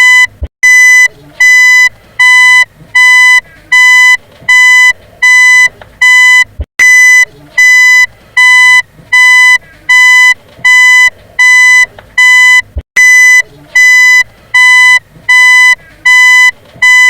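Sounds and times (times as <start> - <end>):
reversing alarm beeping: 0.0 - 17.0.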